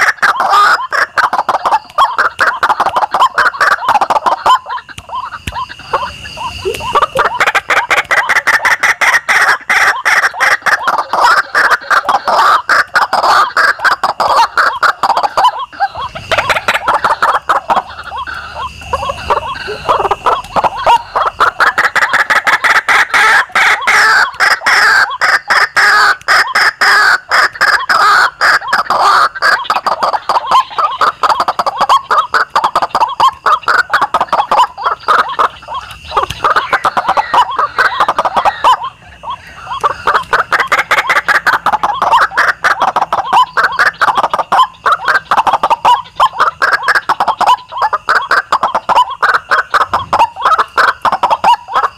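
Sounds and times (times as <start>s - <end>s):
bird harsh rasping calls: 0.0s - 51.9s.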